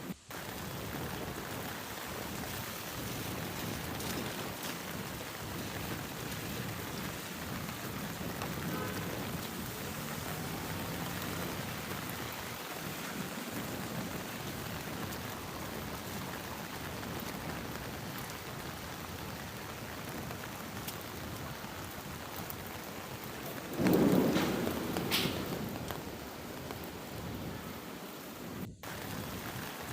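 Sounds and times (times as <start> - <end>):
heavy rainfall: 0.0 - 29.9.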